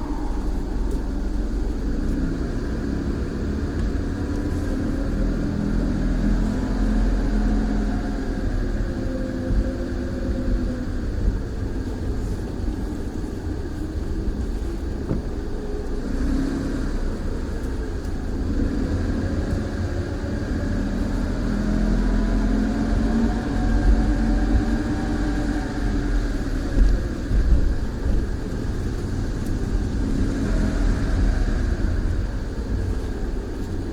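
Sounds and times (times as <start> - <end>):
car engine low rumble: 0.0 - 33.9.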